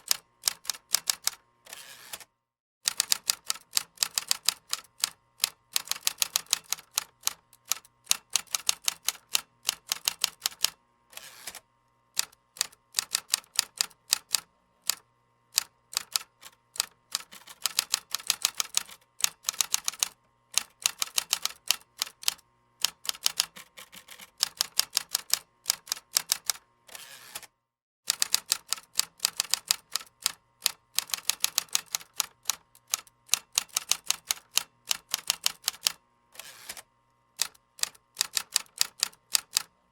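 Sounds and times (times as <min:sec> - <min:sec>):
computer keyboard typing: 0:00.0 - 0:01.4, 0:02.9 - 0:10.7, 0:12.2 - 0:15.0, 0:15.6 - 0:26.6, 0:28.1 - 0:36.0, 0:37.4 - 0:39.7.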